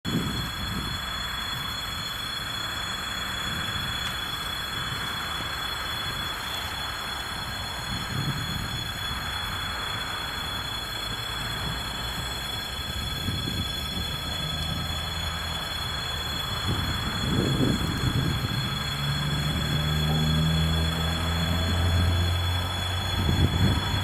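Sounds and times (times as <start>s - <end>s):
distant diesel locomotive rumble: 0.1s - 24.0s.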